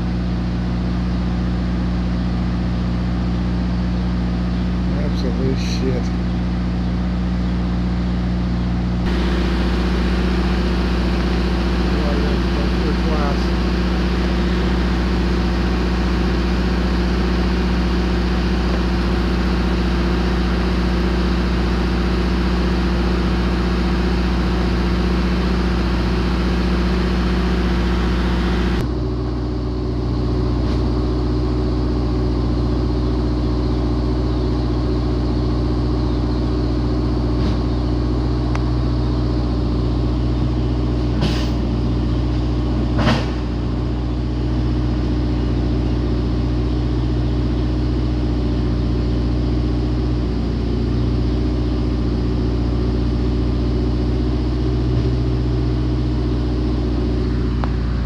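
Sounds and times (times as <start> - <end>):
diesel truck idling: 0.0 - 58.0.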